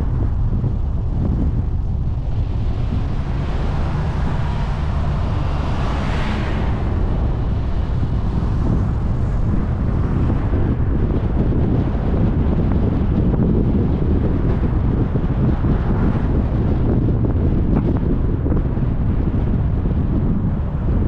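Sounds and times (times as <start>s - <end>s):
car and tyres rumbling on road: 0.0s - 21.0s
wind buffeting microphone: 0.0s - 21.0s.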